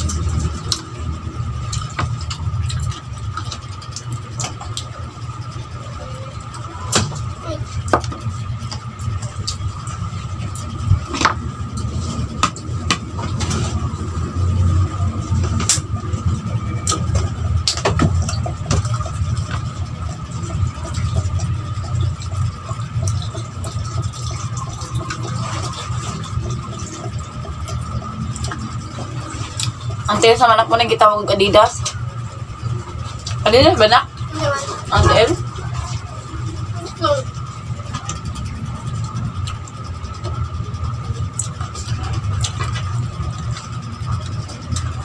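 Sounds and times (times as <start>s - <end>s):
chewing and mouth sounds: 0.0s - 30.1s, 34.2s - 45.0s
steady low hum: 0.0s - 45.0s.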